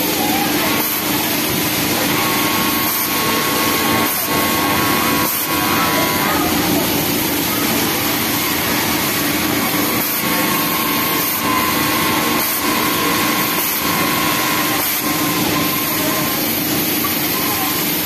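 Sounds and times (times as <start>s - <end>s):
overlock sewing machine running: 0.0s - 18.0s
sewing floor machine noise: 0.0s - 18.0s.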